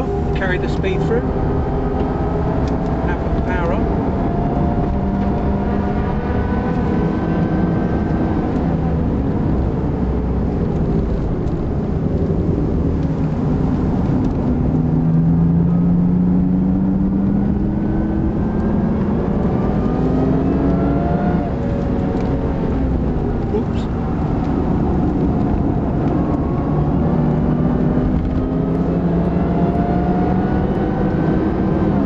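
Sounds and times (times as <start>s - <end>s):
car engine accelerating: 0.0s - 32.0s
road and wind noise: 0.0s - 32.0s.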